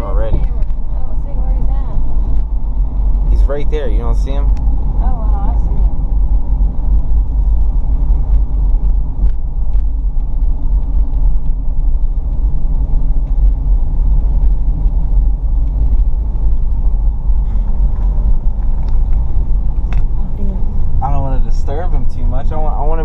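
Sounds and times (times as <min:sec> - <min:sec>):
car interior road noise: 0:00.0 - 0:23.0.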